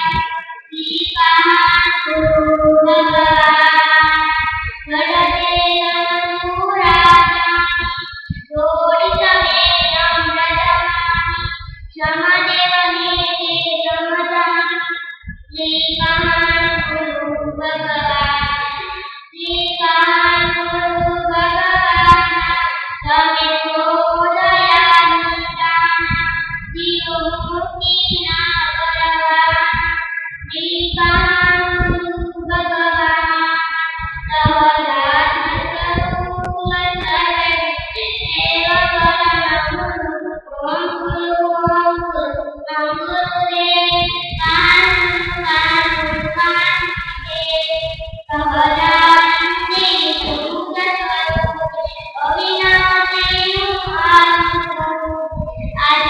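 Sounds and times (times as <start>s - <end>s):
girl singing a hymn: 0.0s - 56.0s.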